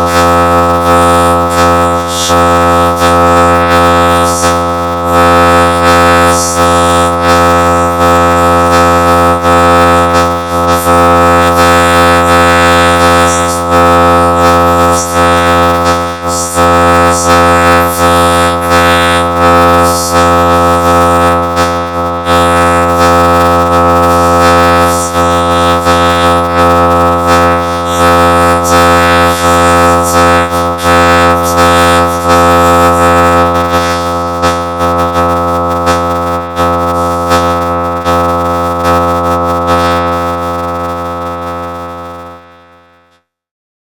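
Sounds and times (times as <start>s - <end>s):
droning distorted song: 0.0s - 42.5s.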